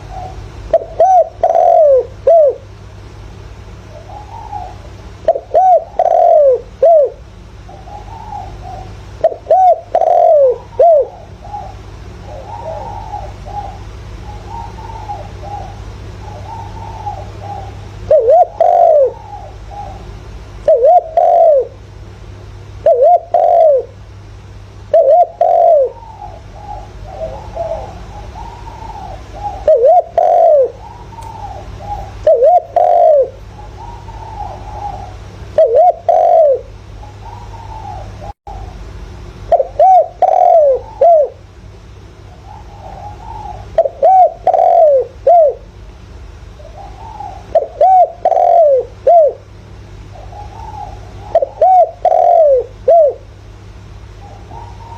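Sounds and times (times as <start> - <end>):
dove cooing loudly: 0.0 - 2.8, 3.7 - 21.9, 22.7 - 24.0, 24.9 - 38.8, 39.4 - 41.5, 42.2 - 45.8, 46.6 - 54.9
faint cooing of doves: 0.0 - 54.9
steady low hum: 0.0 - 54.9.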